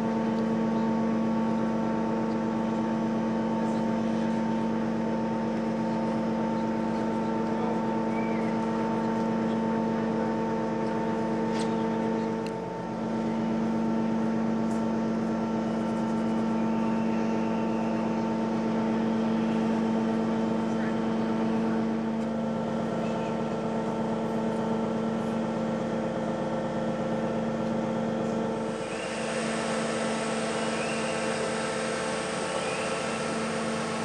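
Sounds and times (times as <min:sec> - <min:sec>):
ferry machinery hum: 0:00.0 - 0:34.0.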